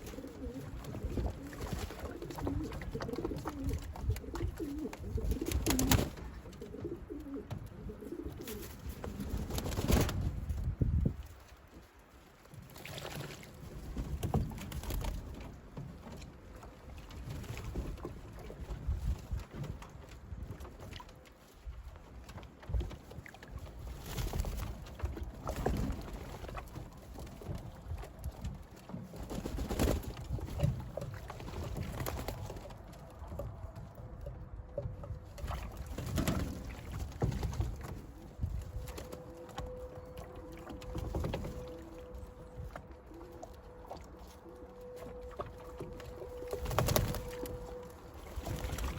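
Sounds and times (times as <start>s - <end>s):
pigeons splashing water: 0.0s - 10.5s, 11.1s - 15.9s, 16.5s - 48.9s.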